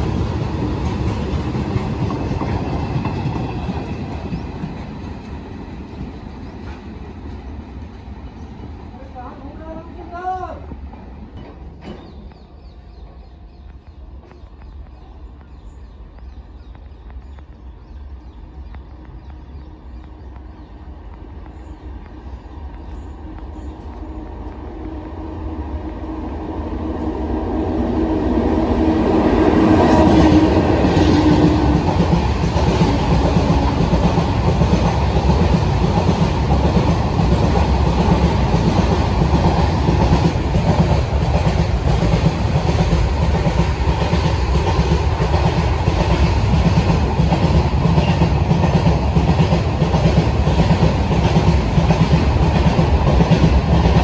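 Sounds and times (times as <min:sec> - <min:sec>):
wheels clacking on rails: 0:00.0 - 0:08.7, 0:09.3 - 0:27.4, 0:28.3 - 0:54.0
freight train rumble: 0:00.0 - 0:54.0.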